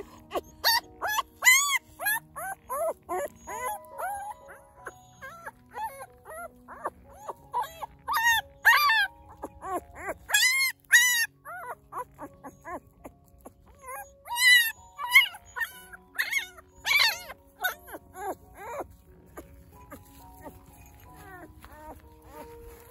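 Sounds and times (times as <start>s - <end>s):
puppy squealing: 0.0s - 22.9s.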